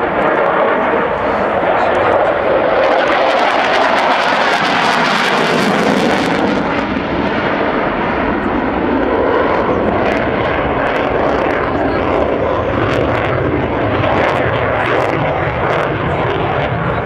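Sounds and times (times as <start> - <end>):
jet engine in flight: 0.0 - 17.0.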